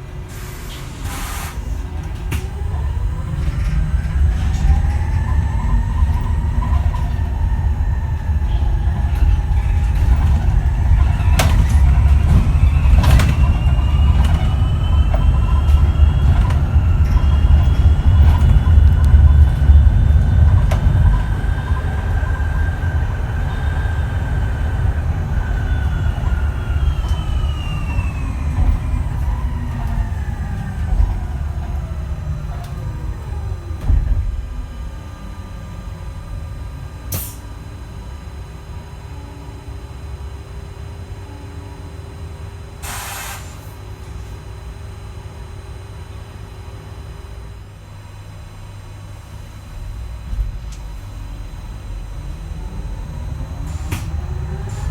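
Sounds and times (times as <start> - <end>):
electric bus motor whine: 0.0 - 54.9
low rumble of moving bus: 0.0 - 54.9.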